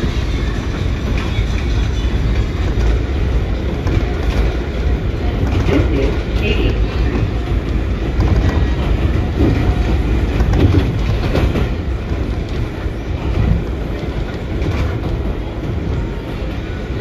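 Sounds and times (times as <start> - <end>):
train rumbling on elevated track: 0.0 - 17.0
wheels clattering on rails: 0.0 - 17.0.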